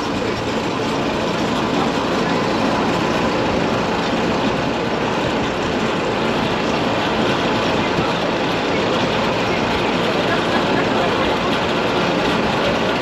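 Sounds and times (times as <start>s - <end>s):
tram running: 0.0s - 13.0s.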